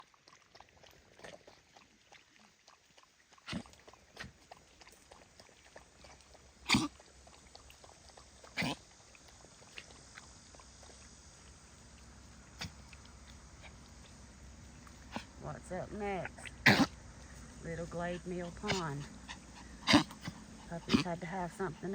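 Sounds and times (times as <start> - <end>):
dogs lapping water: 0.0 - 21.9.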